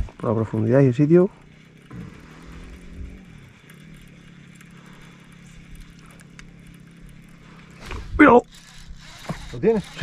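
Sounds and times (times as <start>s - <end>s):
electric motor humming: 0.0s - 10.0s
faint clicks: 1.7s - 10.0s.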